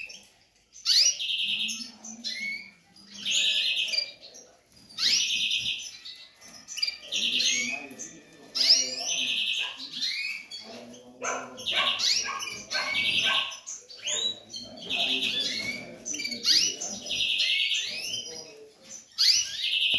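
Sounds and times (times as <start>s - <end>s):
canary singing: 0.0s - 19.9s.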